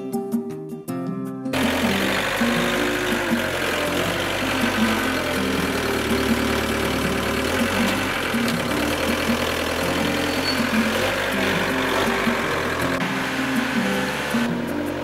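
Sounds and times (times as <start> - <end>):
background music: 0.0 - 15.0
forklift engine running: 1.5 - 15.0.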